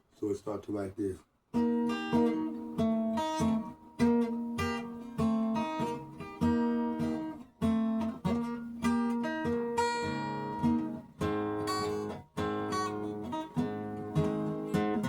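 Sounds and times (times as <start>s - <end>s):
fingerpicked acoustic guitar: 1.5s - 15.0s.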